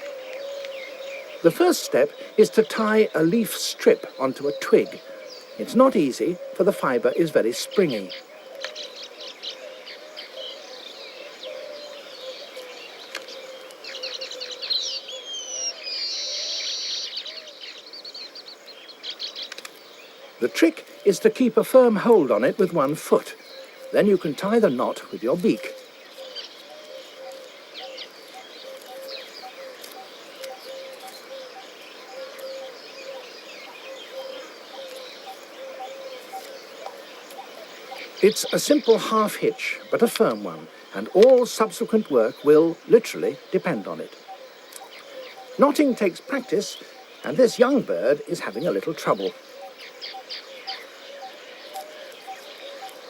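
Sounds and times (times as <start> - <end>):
weaverbirds chirping and chattering: 0.0 - 53.0.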